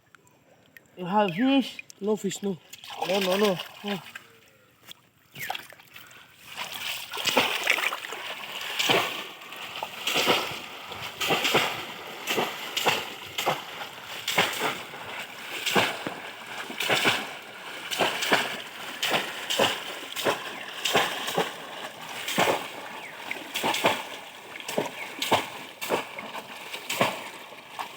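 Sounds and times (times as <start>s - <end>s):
water splashing and sloshing: 0.7s - 27.9s.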